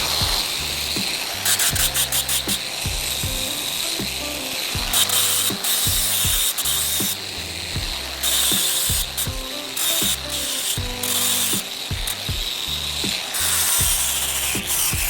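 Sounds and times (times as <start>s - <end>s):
bursts of bright hiss: 0.0s - 15.0s
music with beat and bass line: 0.0s - 15.0s.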